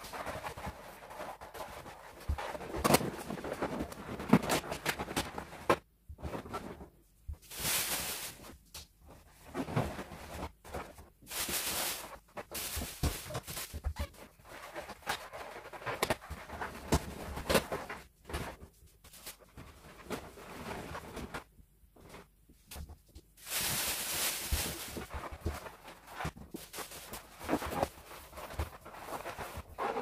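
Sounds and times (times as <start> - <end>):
balloons rustling: 0.0 - 30.0.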